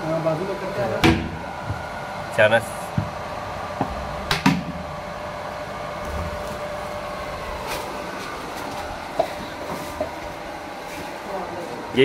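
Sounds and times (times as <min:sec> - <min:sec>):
mechanical hum with faint whine: 0:00.0 - 0:12.0.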